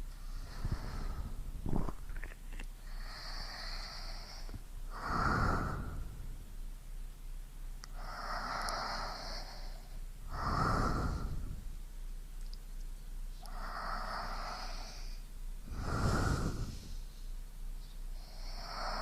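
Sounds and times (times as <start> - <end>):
slow deep breathing: 0.0 - 2.2, 2.8 - 6.5, 7.8 - 11.8, 13.4 - 19.0.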